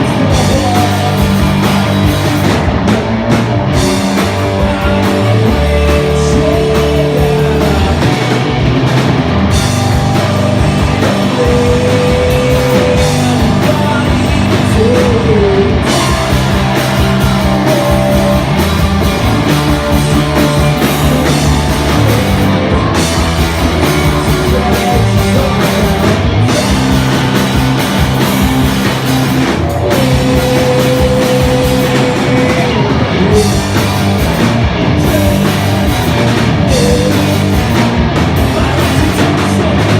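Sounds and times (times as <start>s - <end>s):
drums: 0.0s - 39.9s
electric guitars: 0.0s - 39.9s.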